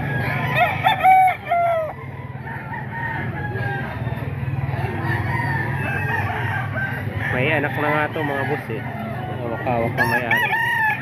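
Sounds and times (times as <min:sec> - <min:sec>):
distant roosters crowing: 0:00.0 - 0:11.0.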